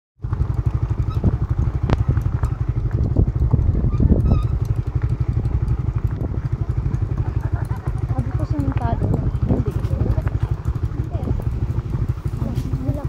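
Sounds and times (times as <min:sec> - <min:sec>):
motorcycle engine running: 0:00.2 - 0:13.0.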